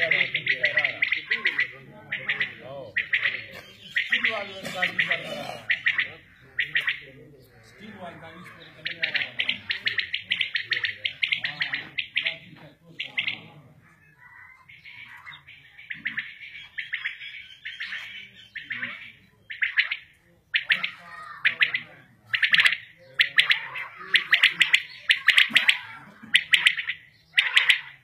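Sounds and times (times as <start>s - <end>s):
quails calling: 0.0s - 28.0s.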